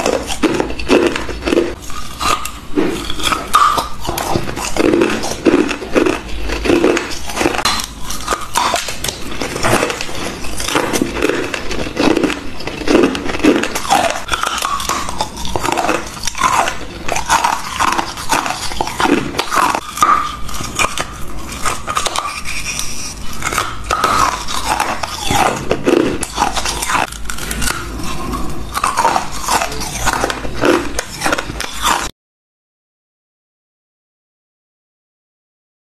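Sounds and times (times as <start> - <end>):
ice crunching being chewed: 0.0 - 32.1.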